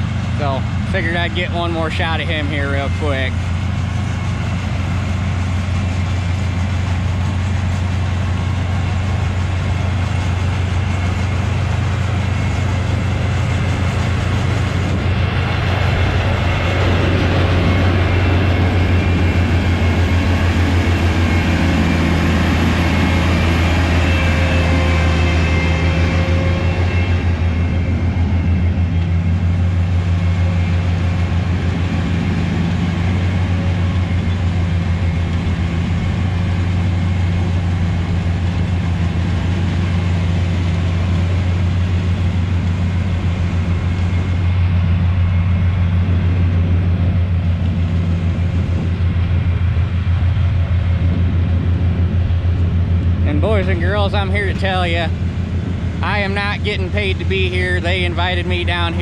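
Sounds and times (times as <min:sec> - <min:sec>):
deep engine drone: 0:00.0 - 0:59.0.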